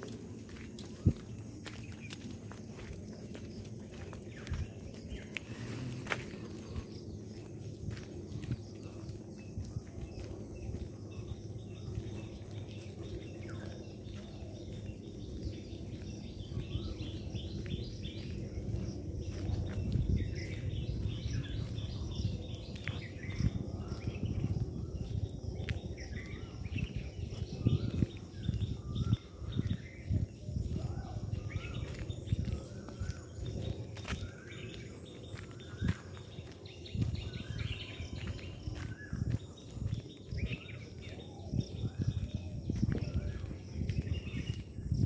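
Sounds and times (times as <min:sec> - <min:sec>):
footsteps scuffing: 0:00.0 - 0:44.8
high insect drone: 0:00.0 - 0:45.0
small birds chirping: 0:00.0 - 0:45.0.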